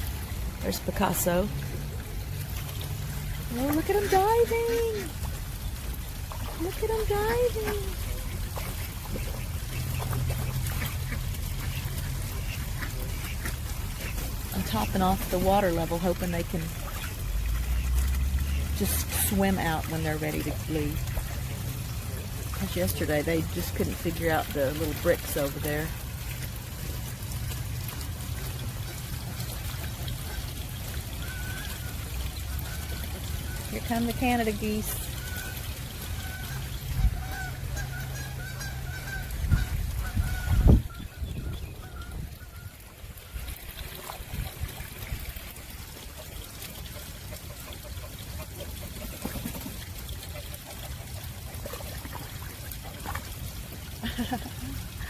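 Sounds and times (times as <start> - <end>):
water pouring into a pond: 0.0 - 55.0.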